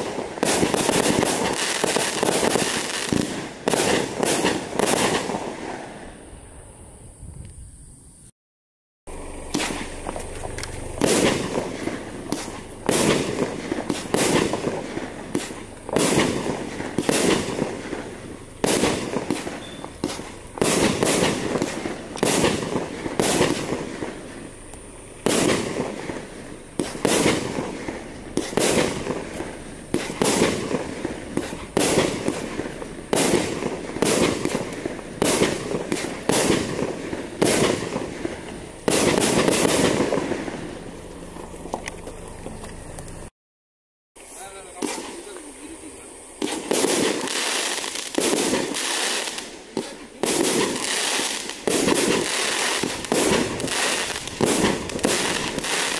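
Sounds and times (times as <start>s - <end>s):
firework barrage bangs: 0.0s - 6.0s, 9.3s - 41.6s, 44.4s - 45.8s, 46.4s - 55.9s.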